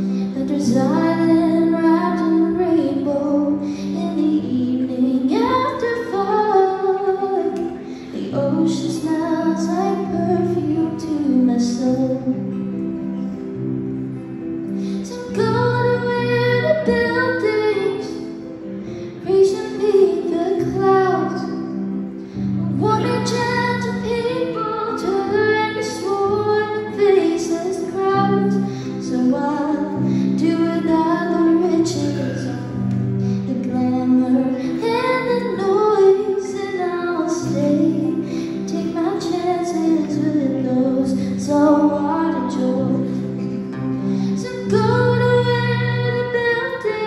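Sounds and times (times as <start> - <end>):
woman singing folk ballad: 0.0 - 13.4, 14.8 - 47.0
acoustic guitar: 0.0 - 47.0.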